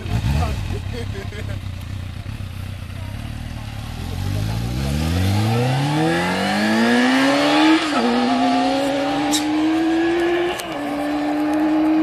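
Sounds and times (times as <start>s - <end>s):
motorcycle accelerating hard: 0.0s - 12.0s.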